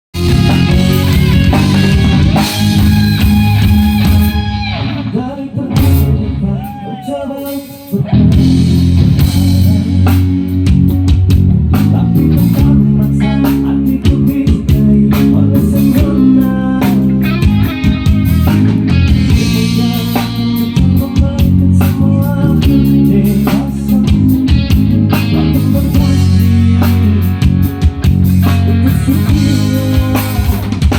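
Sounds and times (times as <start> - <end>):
rock music through pa system: 0.1 - 30.9.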